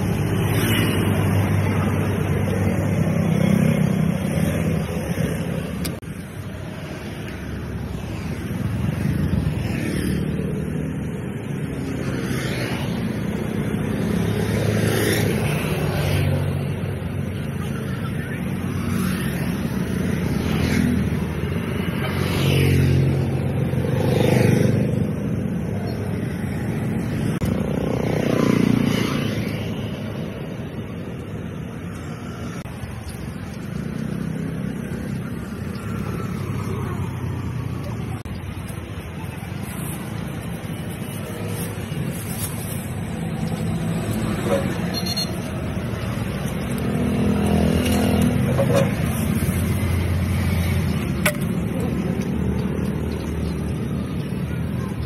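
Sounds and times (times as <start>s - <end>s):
cars and motorbikes passing: 0.0s - 55.0s
steady roadside din: 0.0s - 55.0s.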